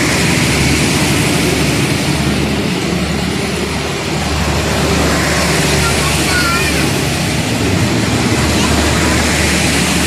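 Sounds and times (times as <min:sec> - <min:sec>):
low drone: 0:00.0 - 0:10.0
train wheels rumbling on rails: 0:00.0 - 0:10.0.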